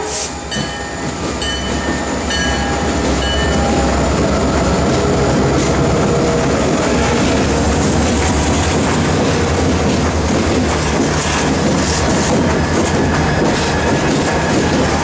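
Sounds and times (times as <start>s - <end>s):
diesel locomotives passing: 0.0s - 15.0s
train wheels rolling on rails: 0.0s - 15.0s.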